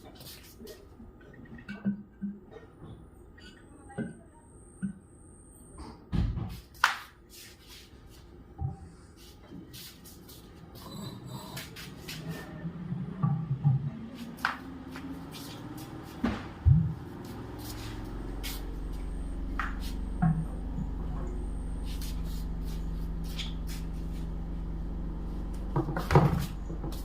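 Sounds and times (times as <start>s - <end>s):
low mechanical hum: 0.0s - 6.7s, 7.5s - 27.0s.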